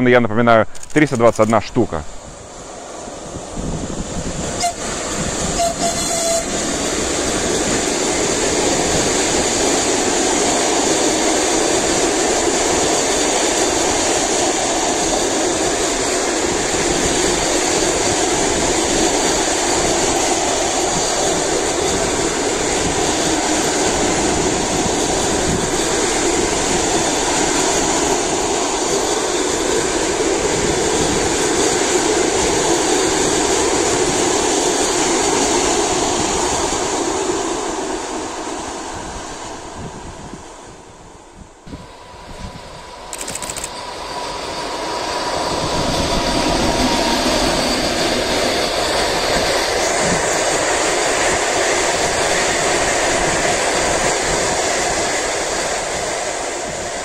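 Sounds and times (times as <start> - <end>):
train wheels rumbling on rails: 0.7 - 57.0.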